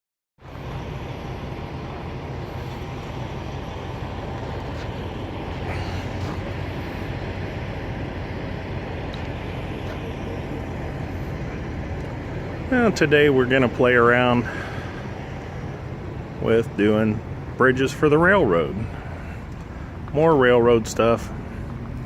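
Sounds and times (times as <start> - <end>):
road rumble: 0.4 - 22.0
vehicle engine droning: 0.4 - 22.0.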